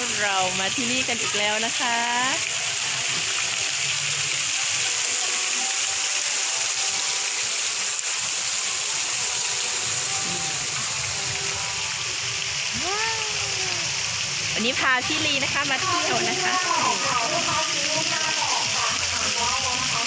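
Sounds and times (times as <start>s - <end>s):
faint music: 0.0s - 20.0s
waterfall rushing: 0.0s - 20.0s.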